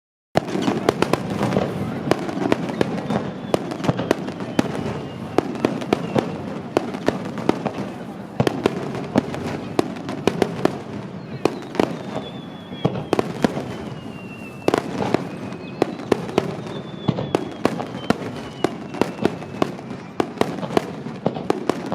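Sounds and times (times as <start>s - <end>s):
fireworks exploding: 0.4s - 21.9s.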